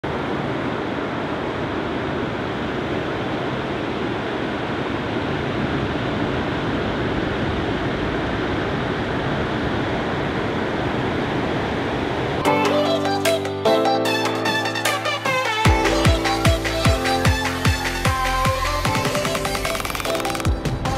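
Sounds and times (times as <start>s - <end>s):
ocean surf breaking: 0.0s - 17.6s.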